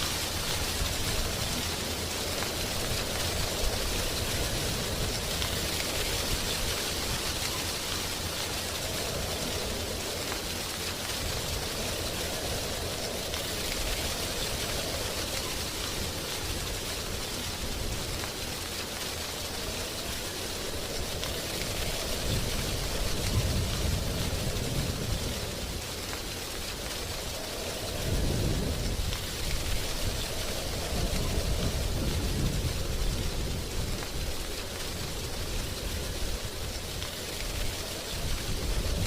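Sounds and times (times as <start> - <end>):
wind rustling leaves: 0.0 - 39.0.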